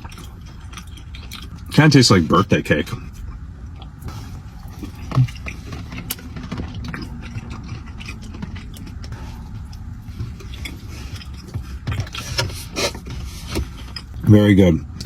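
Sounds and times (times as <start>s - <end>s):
person chewing: 0.0s - 14.3s
steady low rumble: 0.0s - 15.0s.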